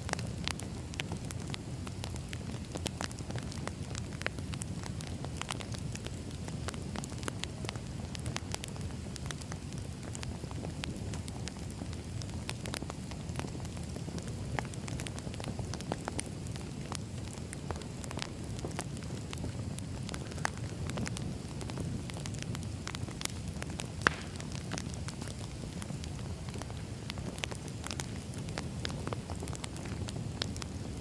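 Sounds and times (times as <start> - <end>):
firewood crackling and popping: 0.0 - 31.0
flames rumbling: 0.0 - 31.0.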